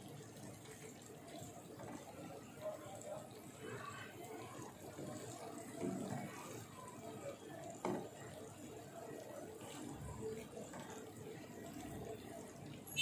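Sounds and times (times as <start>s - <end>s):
dough sizzling in hot oil: 0.0s - 13.0s.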